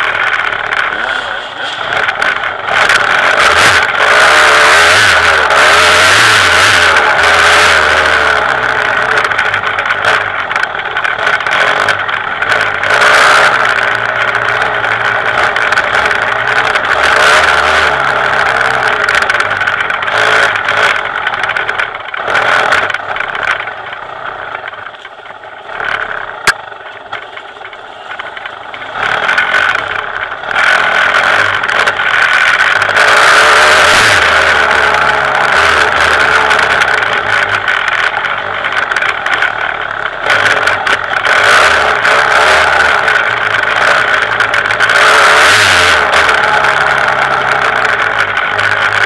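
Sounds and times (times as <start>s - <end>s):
dirt bike engine revving: 0.0s - 24.8s, 25.5s - 49.0s.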